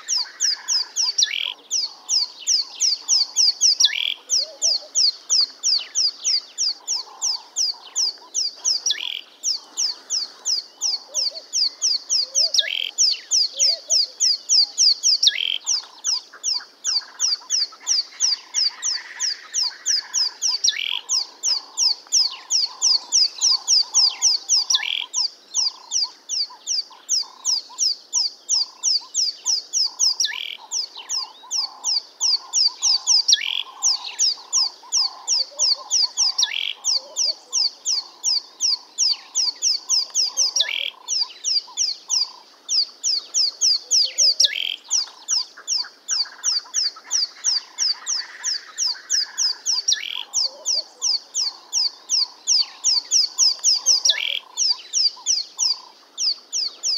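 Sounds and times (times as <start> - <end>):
lower pulsing bird call: 0.0 - 56.9
small birds chirping: 0.0 - 56.9.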